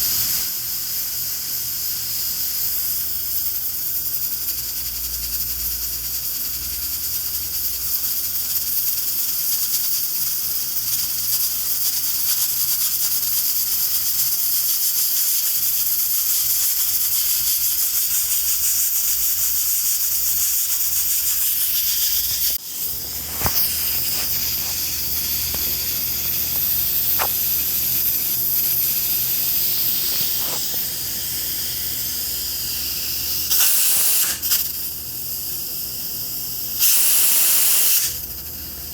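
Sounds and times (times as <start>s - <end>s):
pressure cooker hissing: 0.0s - 38.9s.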